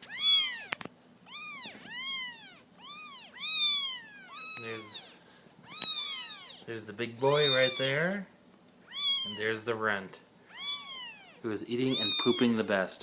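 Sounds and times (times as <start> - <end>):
kittens mewing: 0.0 - 8.1, 8.8 - 9.6, 10.5 - 12.8.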